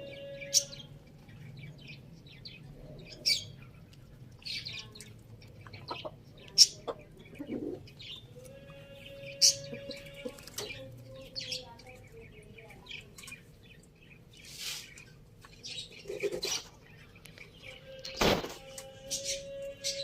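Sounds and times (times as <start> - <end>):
chickens chirping and peeping: 0.0 - 20.0.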